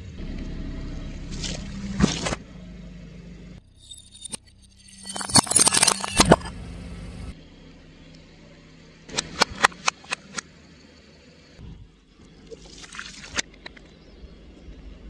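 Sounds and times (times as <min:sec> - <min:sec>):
low car engine hum: 0:00.0 - 0:04.8, 0:06.0 - 0:15.0.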